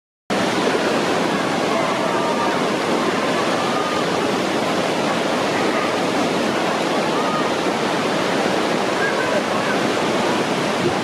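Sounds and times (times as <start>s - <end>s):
whitewater rapids rushing: 0.3s - 11.0s.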